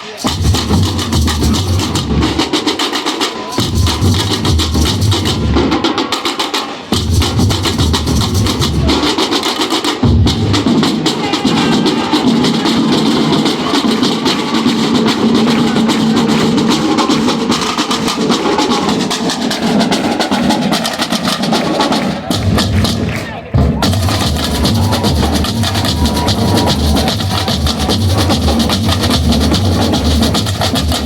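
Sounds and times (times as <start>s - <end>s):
samba drum ensemble: 0.0s - 31.0s.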